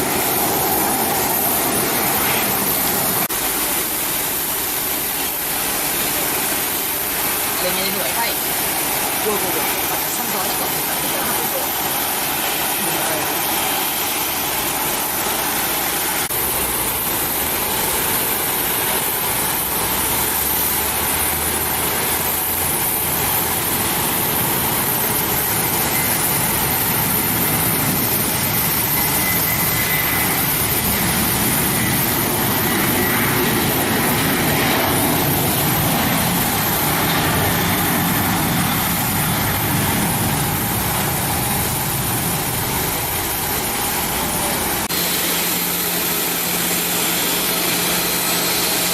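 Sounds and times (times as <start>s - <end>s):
jet engines running with whine: 0.0s - 48.9s.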